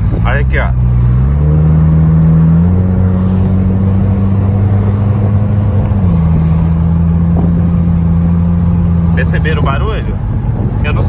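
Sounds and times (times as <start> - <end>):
car engine droning: 0.0 - 11.0
wind noise: 0.0 - 11.0.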